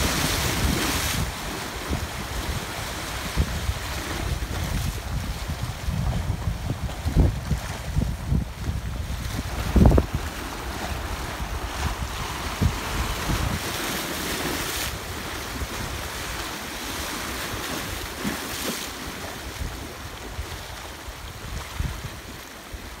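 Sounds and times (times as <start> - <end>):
wind buffeting microphone: 0.0 - 18.2, 19.2 - 23.0
waves splashing over rocks: 0.0 - 23.0.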